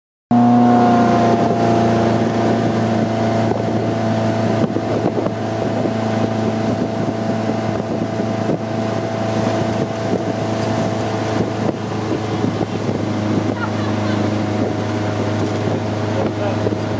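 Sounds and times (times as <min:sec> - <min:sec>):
motorboat engine running: 0:00.3 - 0:16.9
wind on microphone: 0:00.3 - 0:16.9.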